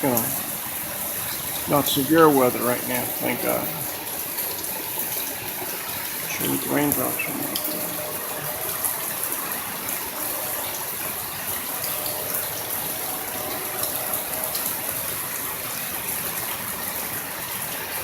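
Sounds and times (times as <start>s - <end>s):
raindrops ticking close by: 0.0s - 18.0s
torrential rain pouring: 0.0s - 18.0s.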